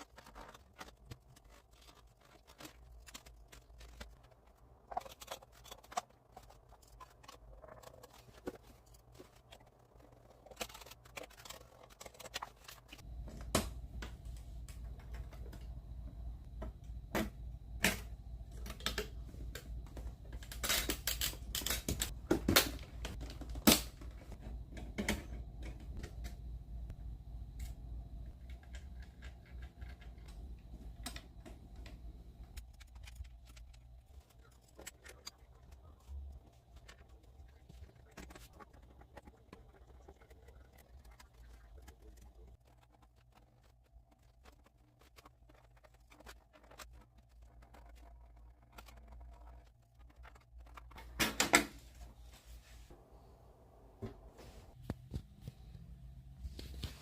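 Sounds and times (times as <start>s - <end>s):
computer parts clicking and rustling: 0.0s - 26.4s, 27.6s - 52.0s
steady low hum: 0.0s - 57.0s.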